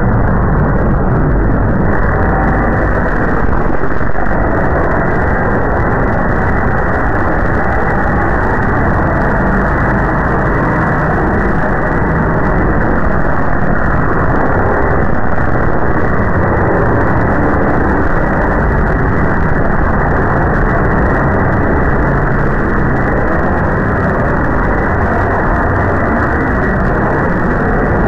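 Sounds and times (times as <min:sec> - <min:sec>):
muffled rumbling: 0:00.0 - 0:28.0.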